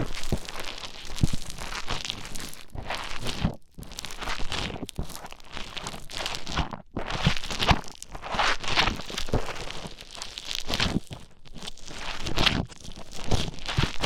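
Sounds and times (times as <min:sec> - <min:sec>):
foam squished crunchy crackling: 0:00.0 - 0:14.0.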